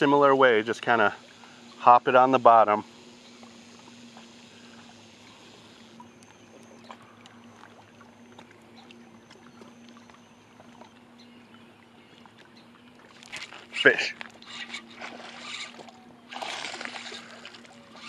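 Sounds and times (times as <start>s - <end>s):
water lapping against rocks: 3.4s - 18.0s.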